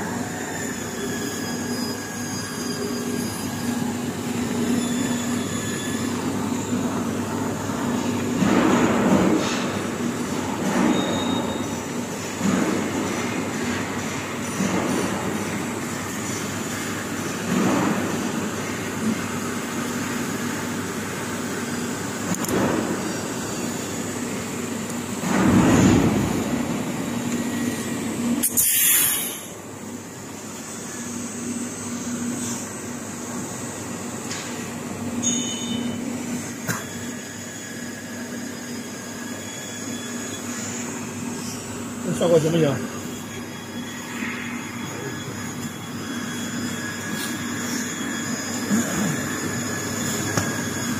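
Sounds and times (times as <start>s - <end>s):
welding machine humming: 0.0s - 50.9s.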